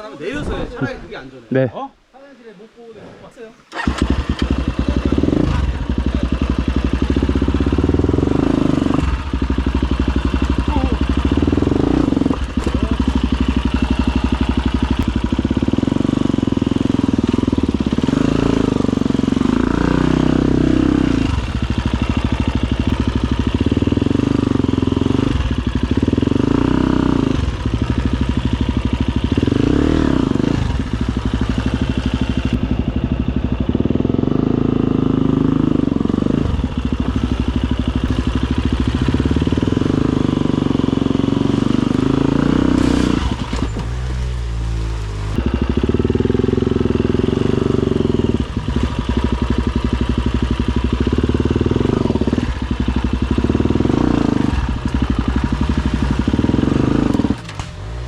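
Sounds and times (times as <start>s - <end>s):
motorcycle engine revving: 3.7s - 58.0s.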